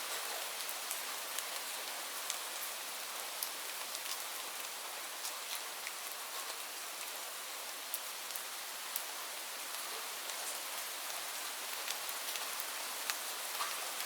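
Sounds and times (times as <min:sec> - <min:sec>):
raindrops ticking on a surface: 0:00.1 - 0:14.0.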